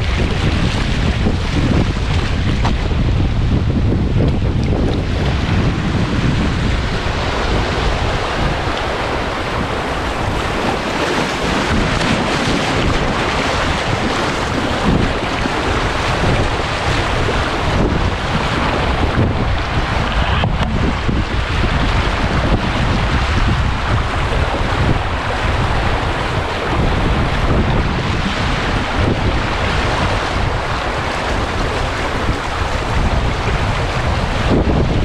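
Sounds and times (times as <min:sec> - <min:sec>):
wind buffeting microphone: 0:00.0 - 0:35.0
paddle splashes: 0:04.2 - 0:35.0
river water rushing: 0:05.1 - 0:35.0.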